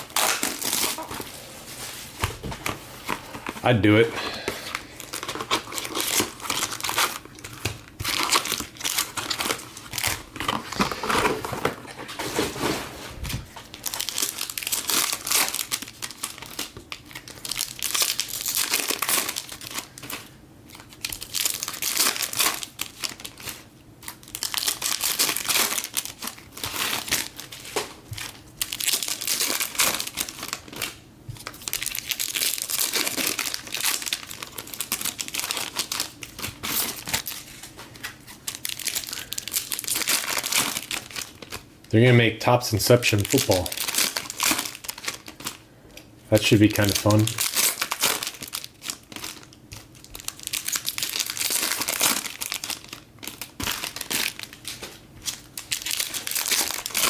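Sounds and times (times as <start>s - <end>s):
card pack wrappers crinkling: 0.0s - 12.8s, 13.4s - 45.7s, 46.3s - 57.0s.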